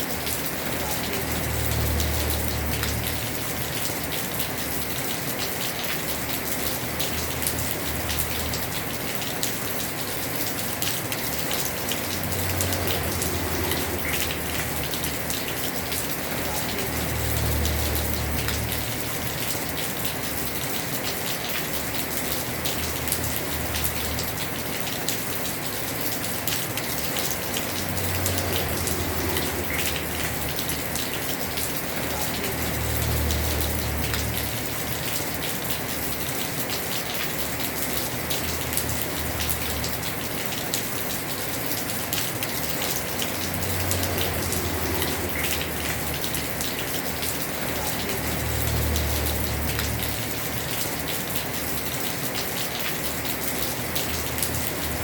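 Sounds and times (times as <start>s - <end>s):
heavy rain on a roof: 0.0s - 55.0s.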